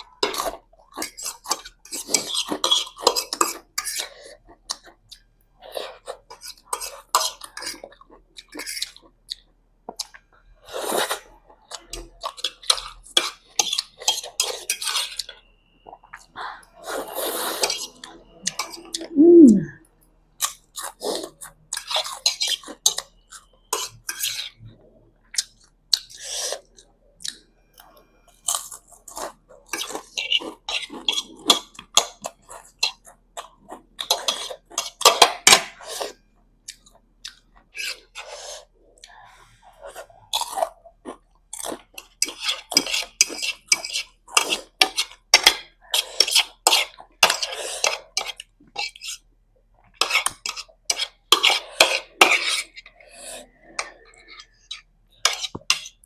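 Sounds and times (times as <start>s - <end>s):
person chewing and slurping noodles: 0.0s - 19.2s, 20.4s - 56.0s.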